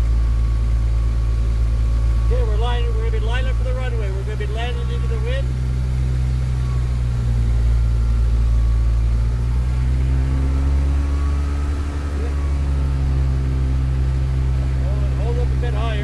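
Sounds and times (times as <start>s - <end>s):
aircraft engine and propeller: 0.0s - 16.0s.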